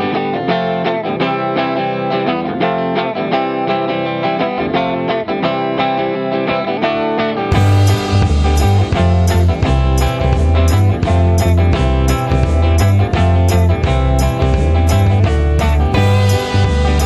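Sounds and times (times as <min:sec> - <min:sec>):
guitar picking melody: 0:00.0 - 0:17.0.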